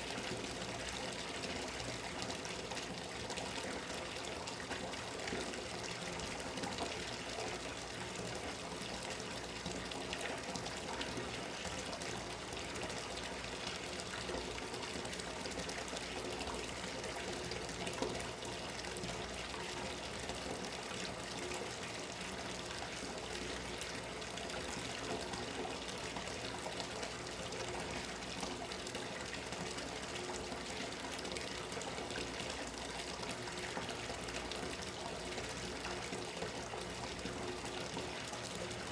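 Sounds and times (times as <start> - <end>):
water running into bathtub: 0.0 - 38.9.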